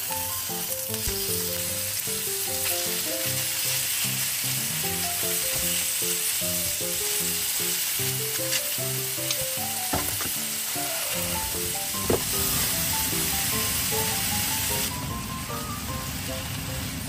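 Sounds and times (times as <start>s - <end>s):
light background melody: 0.0s - 4.0s, 4.8s - 17.0s
meat sizzling in a frying pan: 0.0s - 17.0s.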